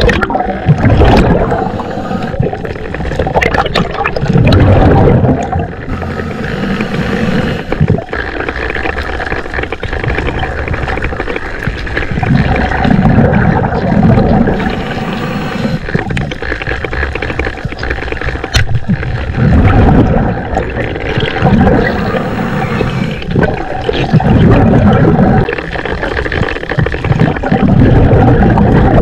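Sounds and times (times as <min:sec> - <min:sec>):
muffled underwater water rushing: 0:00.0 - 0:29.0.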